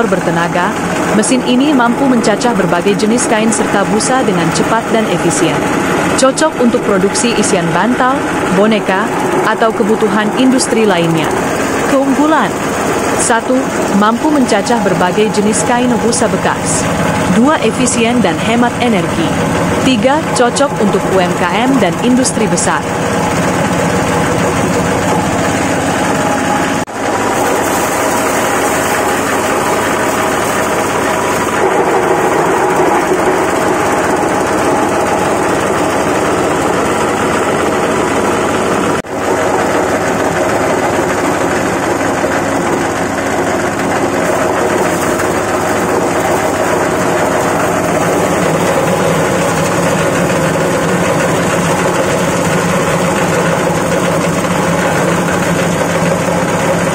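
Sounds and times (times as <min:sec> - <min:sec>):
shredding machine drone: 0:00.0 - 0:56.9.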